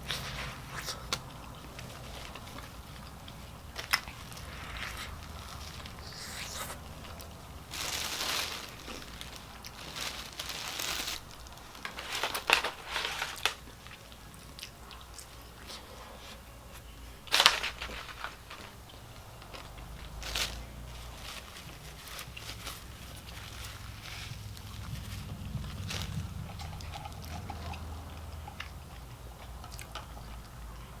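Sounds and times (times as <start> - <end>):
paper crinkling: 0.0 - 14.4, 17.2 - 27.8
person chewing food: 0.0 - 16.9, 21.7 - 31.0.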